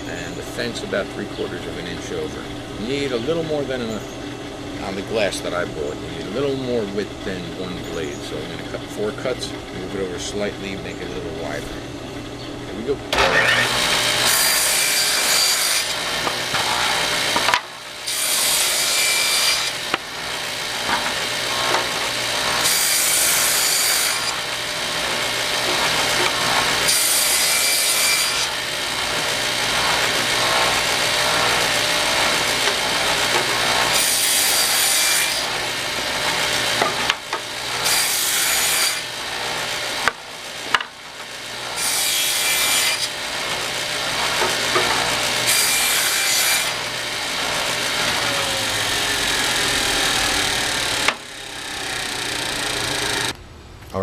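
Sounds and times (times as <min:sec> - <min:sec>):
table saw cutting wood: 0:00.0 - 0:53.4
table saw motor humming: 0:00.0 - 0:53.4.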